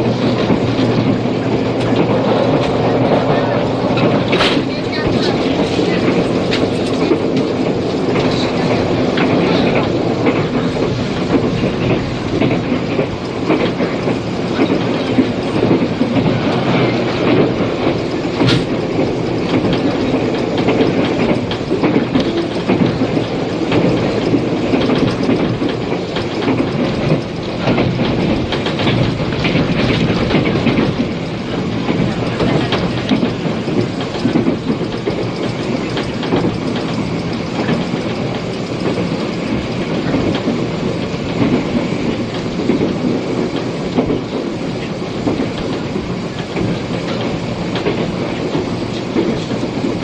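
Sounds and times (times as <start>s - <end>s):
train rumbling at speed: 0.0s - 50.0s
wheels clacking over rail joints: 0.0s - 50.0s.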